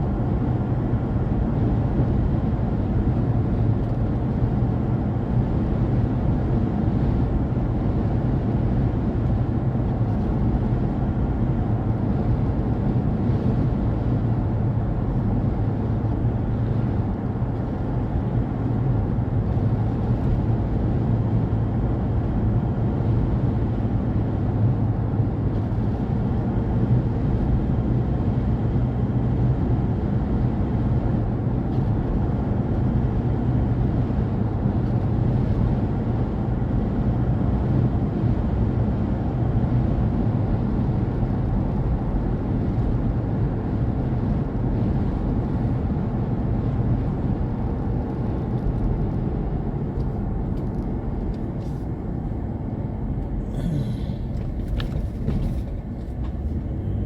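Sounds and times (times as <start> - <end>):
car driving on highway: 0.0 - 57.0.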